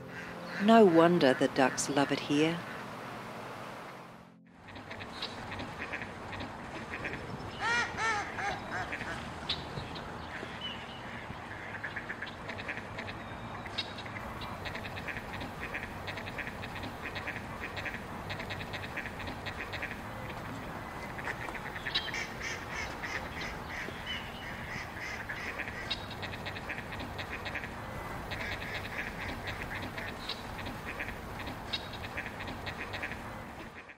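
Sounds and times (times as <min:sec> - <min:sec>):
ducks quacking: 0:00.0 - 0:03.2, 0:04.5 - 0:33.9.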